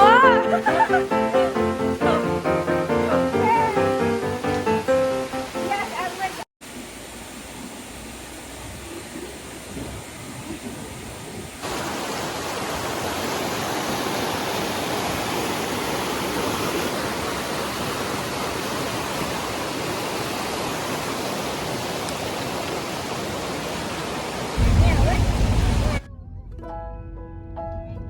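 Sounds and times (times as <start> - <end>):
water rushing: 0.0 - 26.1.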